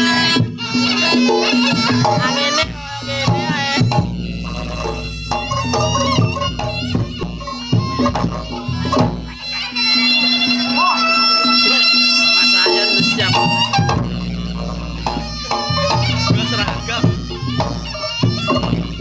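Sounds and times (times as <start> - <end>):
drums: 0.0 - 19.0
shrill wavering shawm melody: 0.0 - 19.0.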